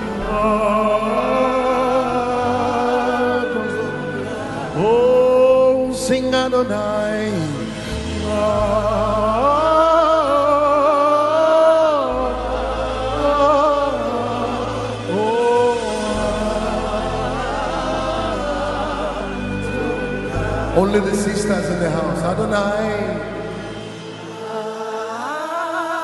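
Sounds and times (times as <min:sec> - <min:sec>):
low bass accompaniment: 0:00.0 - 0:24.2
voices singing gospel: 0:00.0 - 0:26.0.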